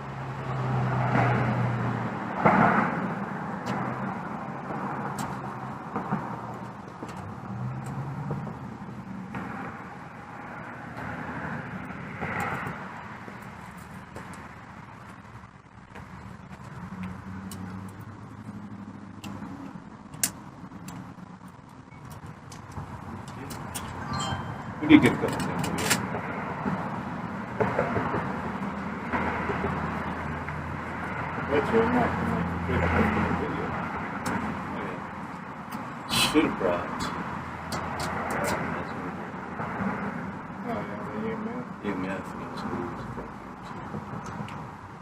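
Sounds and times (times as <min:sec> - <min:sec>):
car engine hum: 0:00.0 - 0:45.0
road noise: 0:00.0 - 0:45.0.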